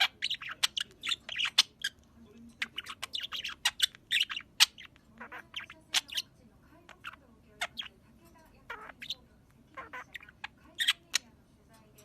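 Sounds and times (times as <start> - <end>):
bird squawking and chirping: 0.0 - 11.3.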